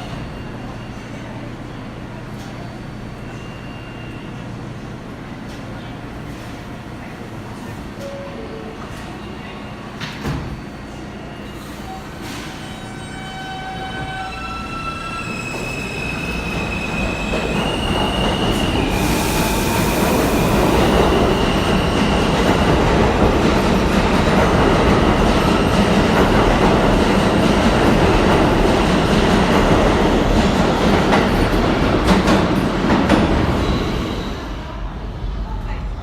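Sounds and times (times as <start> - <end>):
subway train rumbling: 0.0 - 36.0.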